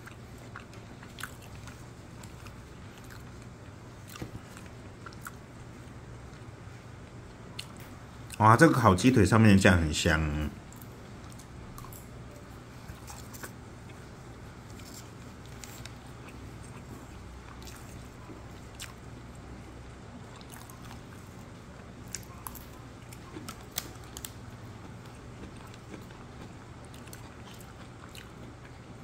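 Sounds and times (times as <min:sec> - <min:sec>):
person chewing: 0:00.0 - 0:08.4, 0:10.7 - 0:19.1, 0:20.2 - 0:28.9.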